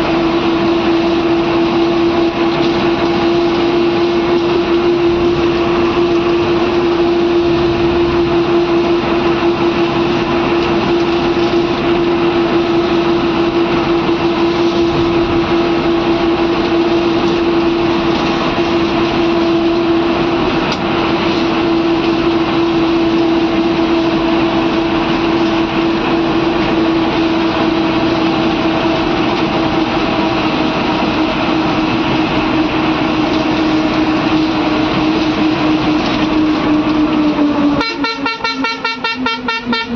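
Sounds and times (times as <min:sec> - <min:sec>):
bus engine running: 0:00.0 - 0:39.9
road noise: 0:00.0 - 0:39.9
steady droning tone: 0:00.0 - 0:39.9.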